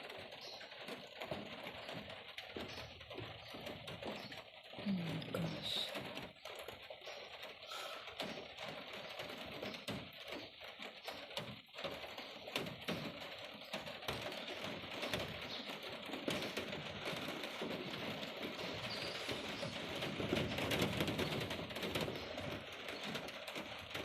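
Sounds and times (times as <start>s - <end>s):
rain pattering: 0.0s - 24.0s.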